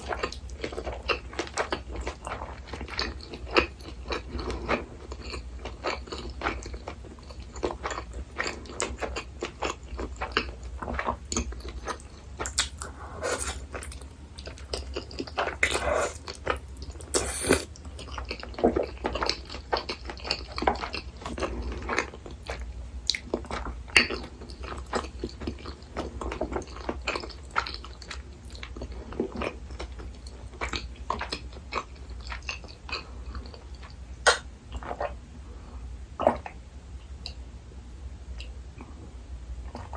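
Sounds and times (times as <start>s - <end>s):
wet chewing and mouth smacks: 0.0s - 35.2s
steady low hum: 0.0s - 39.9s.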